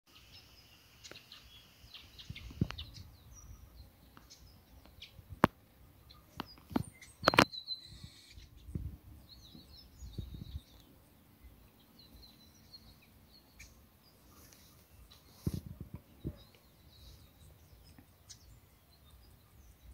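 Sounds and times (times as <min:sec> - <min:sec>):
birds chirping and calling: 0:00.1 - 0:19.9.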